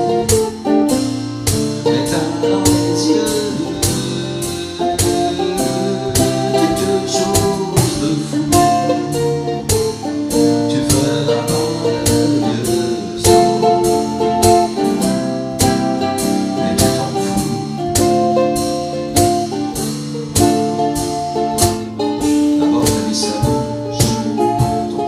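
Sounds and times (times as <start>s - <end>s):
mandolin picking quick notes: 0.0s - 25.0s.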